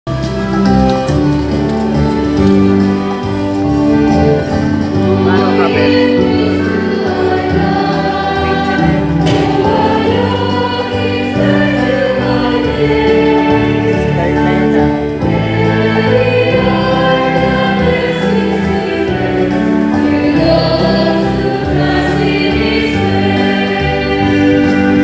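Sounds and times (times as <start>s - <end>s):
instrumental accompaniment: 0.1s - 25.0s
congregation and choir singing: 1.2s - 25.0s.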